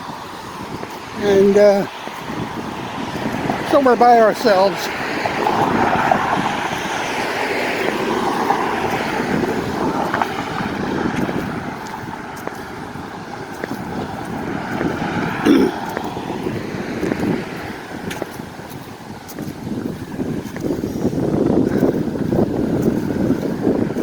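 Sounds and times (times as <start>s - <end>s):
road traffic passing: 0.0s - 24.0s
wind buffeting microphone: 0.0s - 24.0s.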